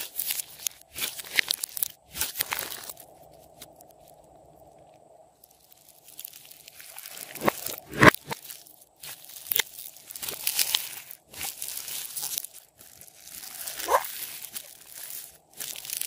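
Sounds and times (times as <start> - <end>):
slime squishing and crackling: 0.0 - 3.7, 5.5 - 16.0.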